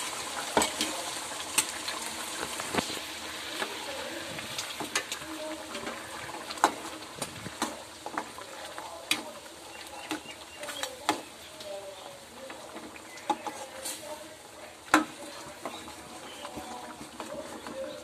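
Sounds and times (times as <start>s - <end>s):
thick gravy bubbling: 0.0s - 18.0s.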